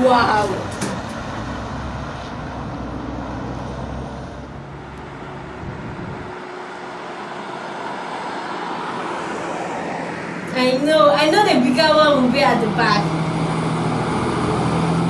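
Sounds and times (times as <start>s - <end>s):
fire trucks engine rumble: 0.0s - 15.0s
road noise: 0.0s - 15.0s.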